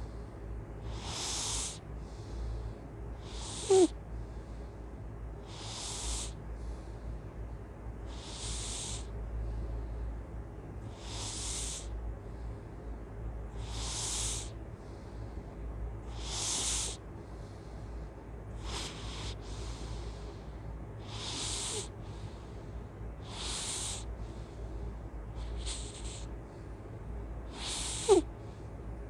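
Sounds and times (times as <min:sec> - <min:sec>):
hissy snoring breaths: 0:00.0 - 0:29.0.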